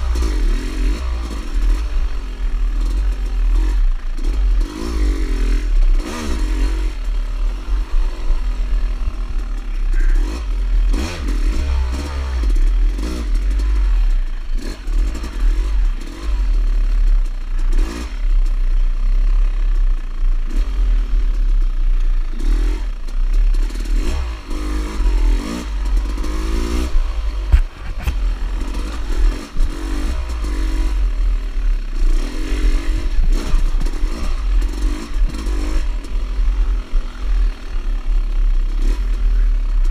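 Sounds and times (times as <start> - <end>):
dirt bike engine revving: 0.0 - 18.4, 20.4 - 21.4, 22.3 - 39.9.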